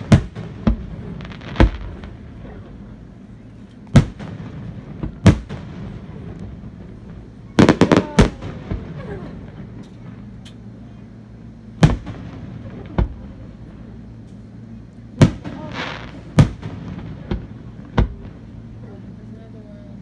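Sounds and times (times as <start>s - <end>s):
fireworks bursting: 0.0s - 19.3s.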